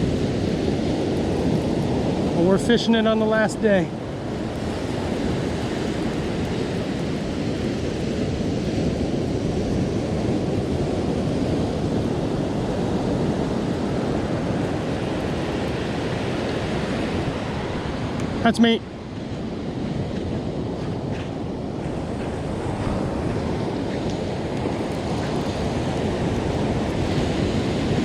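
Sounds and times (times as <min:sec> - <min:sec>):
ocean surf washing onto beach: 0:00.0 - 0:28.0
wind rushing across microphone: 0:00.0 - 0:28.0.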